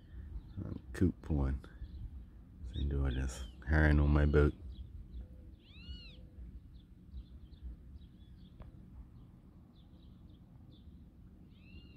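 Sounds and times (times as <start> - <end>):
faint bird chirps: 1.6 - 11.9.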